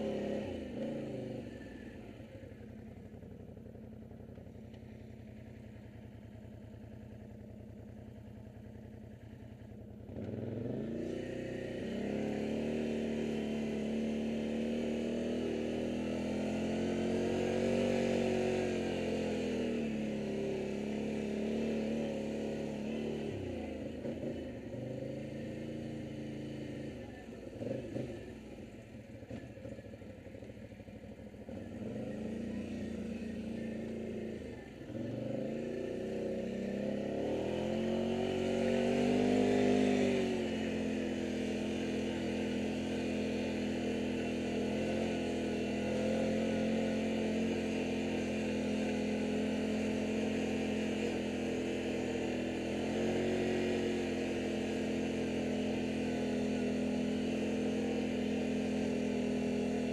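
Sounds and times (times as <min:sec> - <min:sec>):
quad engine revving: 0:00.0 - 0:02.6, 0:10.0 - 0:29.8, 0:31.4 - 0:59.9.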